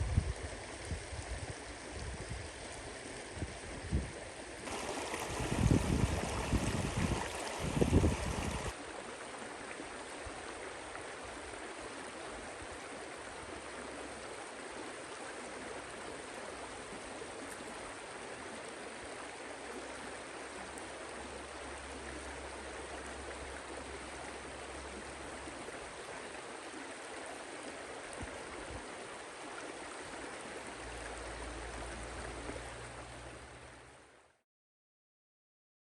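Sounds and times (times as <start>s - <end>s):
stream flowing: 0.1s - 34.4s.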